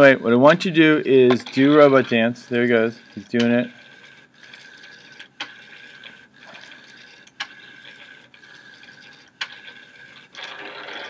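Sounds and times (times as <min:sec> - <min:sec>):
small drive motors whining: 0:00.0 - 0:11.0.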